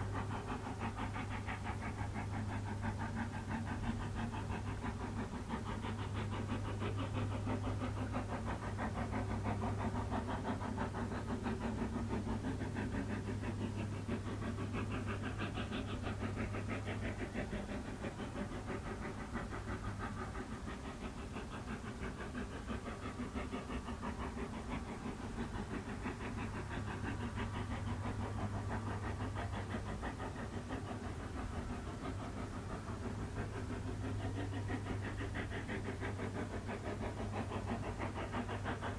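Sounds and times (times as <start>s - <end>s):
steady low hum: 0.0s - 38.9s
steam locomotive chuffing: 0.0s - 38.9s.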